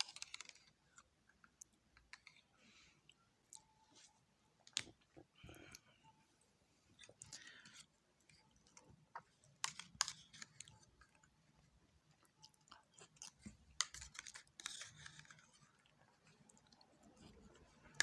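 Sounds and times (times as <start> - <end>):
faint chewing: 0.0 - 18.0.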